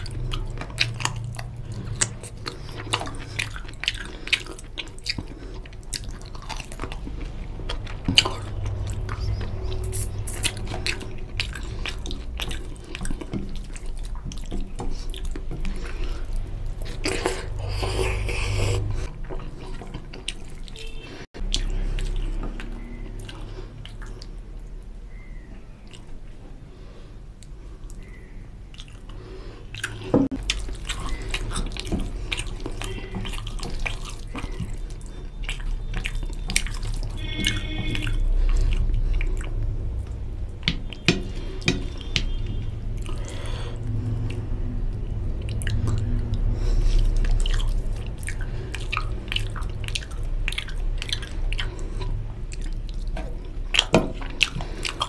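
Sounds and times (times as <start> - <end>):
person chewing: 0.0 - 26.4, 27.4 - 55.0.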